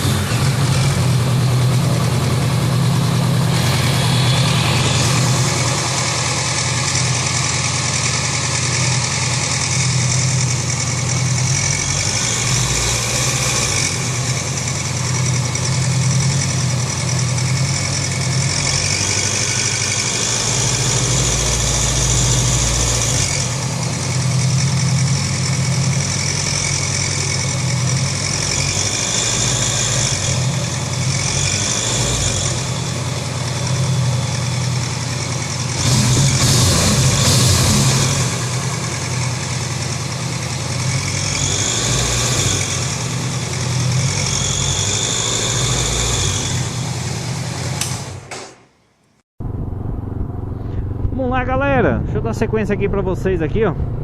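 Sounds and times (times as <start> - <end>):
motorcycle engine running: 0.0 - 48.3
mechanical engine clatter: 0.0 - 48.7.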